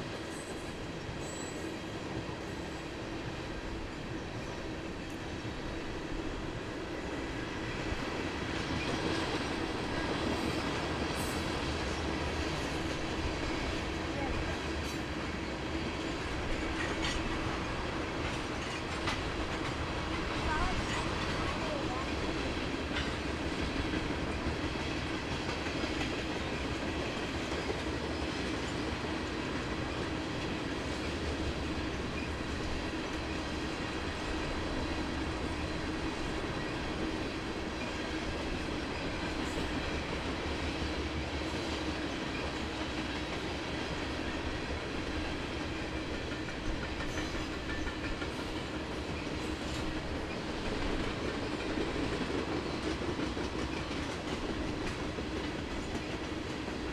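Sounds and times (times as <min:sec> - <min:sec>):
train rumbling on rails: 0:00.0 - 0:56.9.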